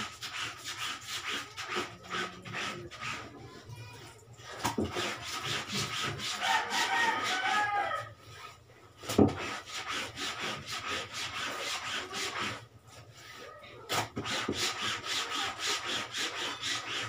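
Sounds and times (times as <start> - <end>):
brush scrubbing wet laundry: 0.0 - 17.0.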